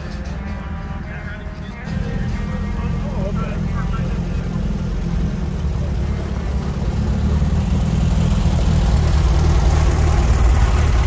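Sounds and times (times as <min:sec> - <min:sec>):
dune buggy engine idling: 0:00.0 - 0:11.0.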